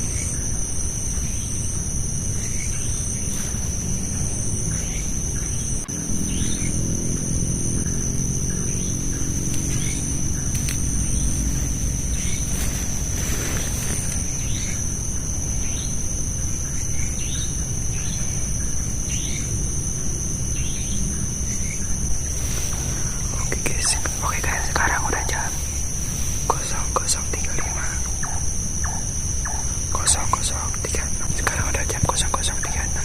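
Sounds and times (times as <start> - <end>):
insects trilling: 0.0 - 33.0
low rumble: 2.0 - 29.9.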